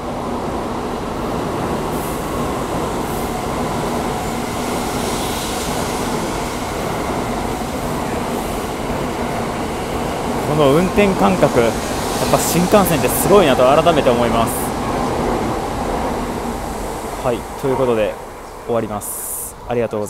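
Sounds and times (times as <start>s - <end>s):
train pulling into station: 0.0s - 20.0s.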